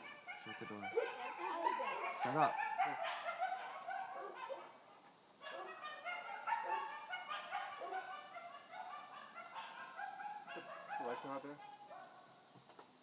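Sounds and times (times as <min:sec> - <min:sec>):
coyotes yipping and howling: 0:00.0 - 0:12.6.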